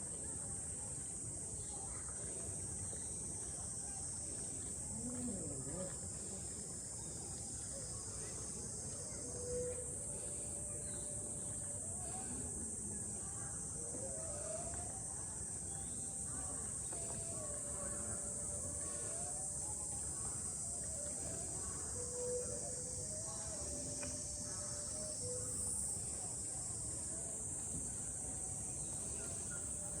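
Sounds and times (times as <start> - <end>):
insects chorus: 0.0 - 30.0.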